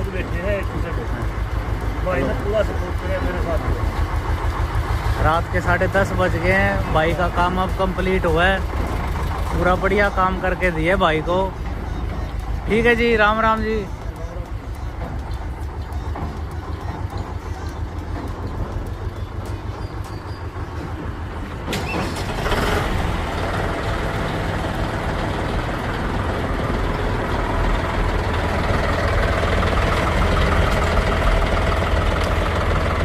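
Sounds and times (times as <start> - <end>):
diesel tractor engine chugging: 0.0 - 33.0.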